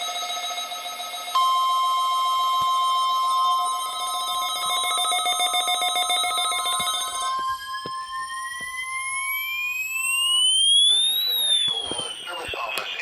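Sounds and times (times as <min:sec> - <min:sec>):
rapid pulsing alarm beeps: 0:00.0 - 0:13.0
steady warning alarm tone: 0:00.0 - 0:13.0
rising whine: 0:01.3 - 0:13.0.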